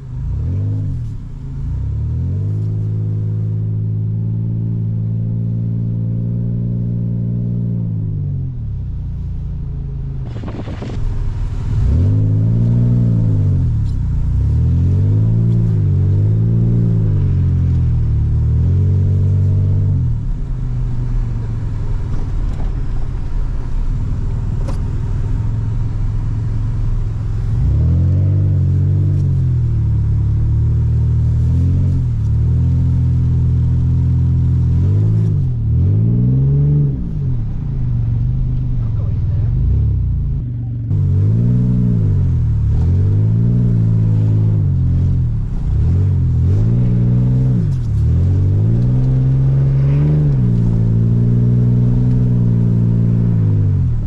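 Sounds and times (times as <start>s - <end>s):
pickup engine revving: 10.0s - 54.0s.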